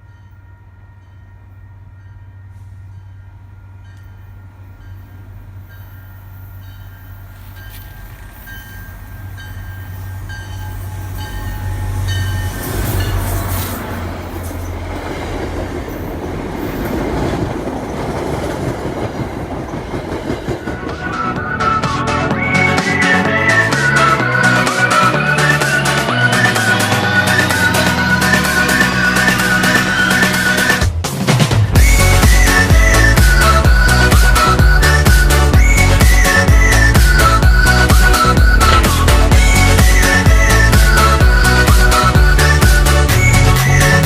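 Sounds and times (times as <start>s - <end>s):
diesel train engine drone: 0.0s - 44.0s
train wheels rushing on rails: 2.0s - 44.0s.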